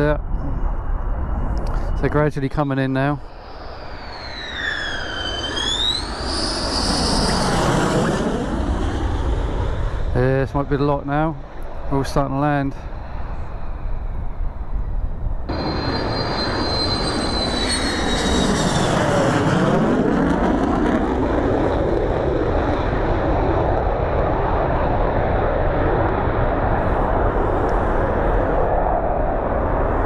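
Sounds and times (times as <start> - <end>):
jet engine rush: 0.0 - 30.0
jet turbine whine: 0.0 - 30.0.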